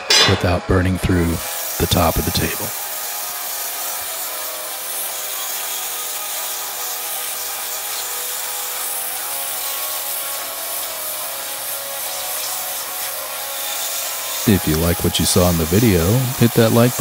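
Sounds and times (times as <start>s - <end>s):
plasma cutter arc hissing: 0.0s - 17.0s.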